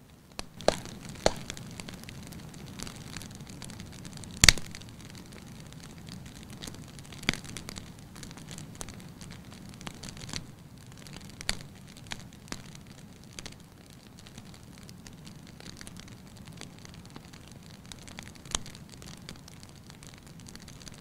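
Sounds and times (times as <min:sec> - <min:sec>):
fire crackles and pops: 0:00.0 - 0:21.0
wood fire burning: 0:00.0 - 0:21.0.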